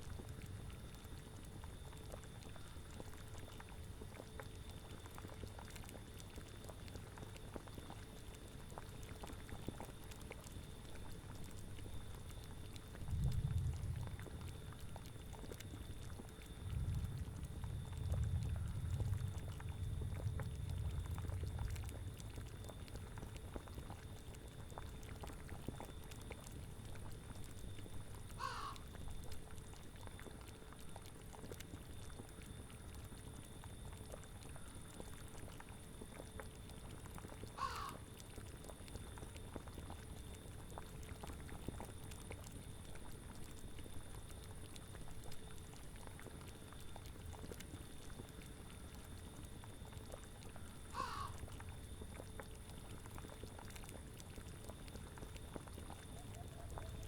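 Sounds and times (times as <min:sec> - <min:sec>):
wind: 0:00.0 - 0:57.0
cauldron bubbling: 0:00.1 - 0:37.4, 0:38.1 - 0:57.0.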